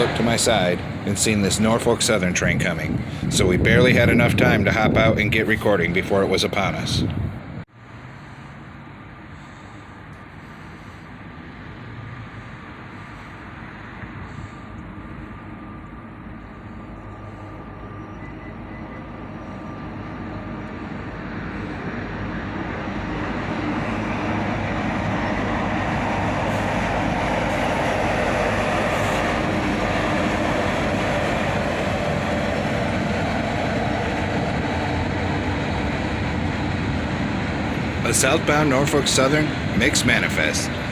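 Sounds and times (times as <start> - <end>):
freight train engine drone: 0.0 - 40.9
train rolling noise: 0.0 - 40.9.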